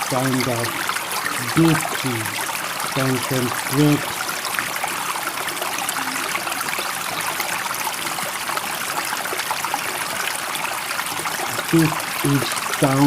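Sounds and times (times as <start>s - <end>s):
running water trickling: 0.0s - 13.0s.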